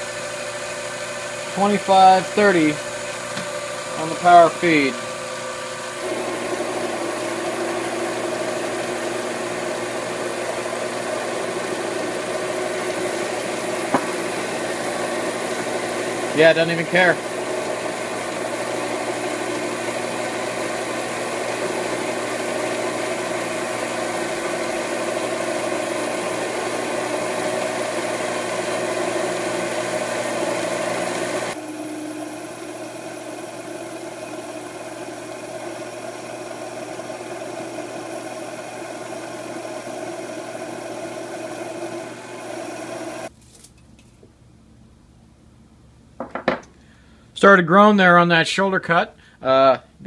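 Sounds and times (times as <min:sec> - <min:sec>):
lathe cutting metal: 0:00.0 - 0:43.3.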